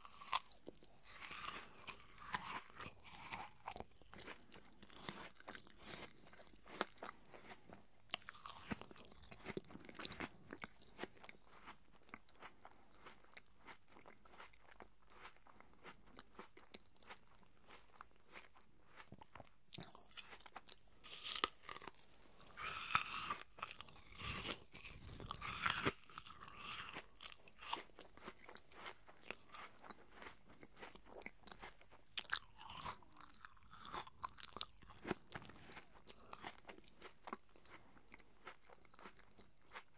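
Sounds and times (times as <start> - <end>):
chewing crisp apple: 0.0 - 39.9.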